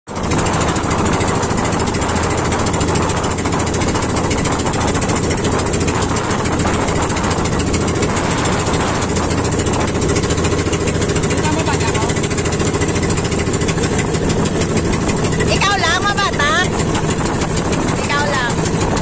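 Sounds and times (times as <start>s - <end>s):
small boat engine chugging: 0.1s - 19.0s.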